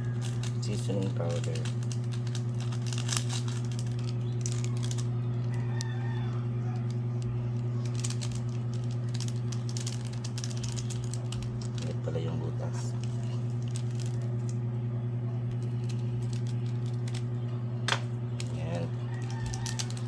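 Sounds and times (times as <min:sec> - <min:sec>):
foil sachets tapping and crinkling: 0:00.0 - 0:14.6, 0:15.5 - 0:17.3, 0:17.9 - 0:20.0
steady low hum: 0:00.0 - 0:20.0.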